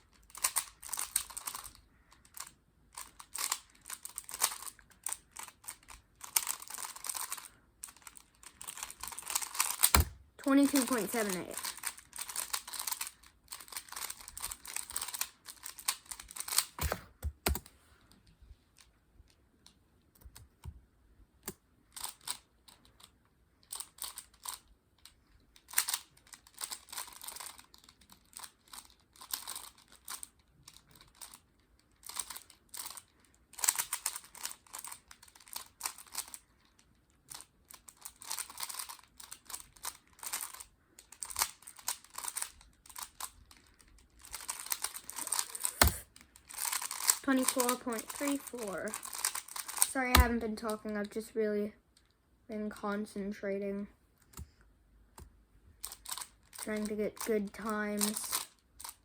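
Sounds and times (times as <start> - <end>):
plastic cube clicking and clacking: 0.0 - 17.7, 21.4 - 50.8, 55.1 - 59.0.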